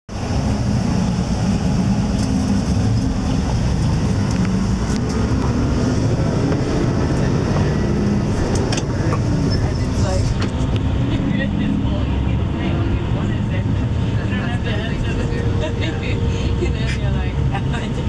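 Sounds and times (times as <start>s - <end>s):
road noise: 0.1s - 18.0s
vehicle engine rumble: 0.1s - 18.0s.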